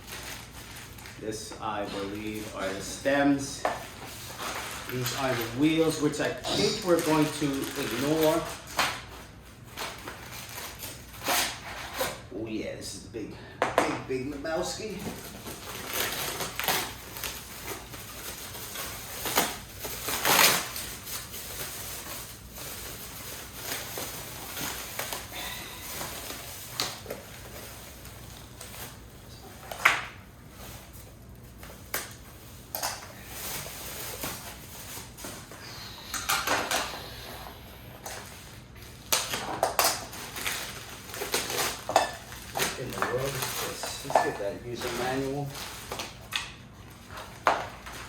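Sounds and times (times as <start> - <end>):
packaging rustling and crinkling: 0.0 - 12.2, 14.4 - 37.3, 37.9 - 48.0.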